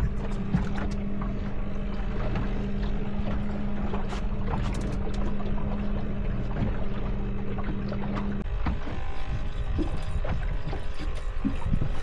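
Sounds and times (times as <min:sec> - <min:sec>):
boat motor humming: 0:00.0 - 0:12.0
water slapping against hull: 0:00.0 - 0:12.0.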